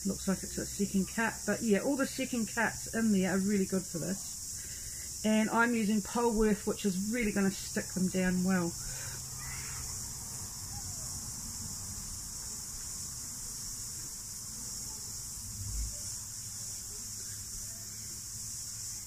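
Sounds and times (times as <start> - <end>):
cicadas chorus: 0.0 - 19.0.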